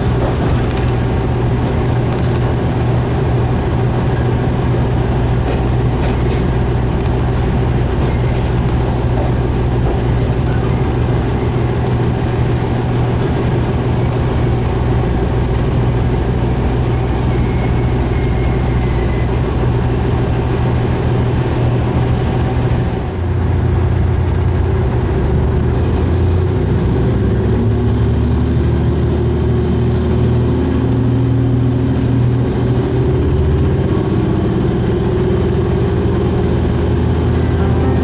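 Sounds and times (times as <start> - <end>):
diesel railcar engine droning: 0.0 - 38.0.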